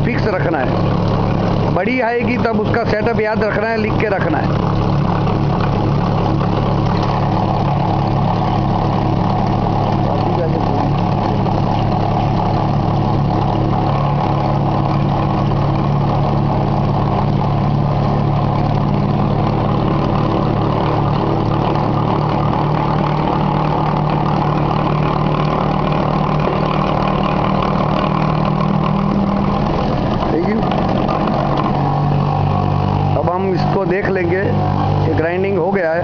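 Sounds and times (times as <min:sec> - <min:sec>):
glass grinding machine: 0:00.0 - 0:36.0.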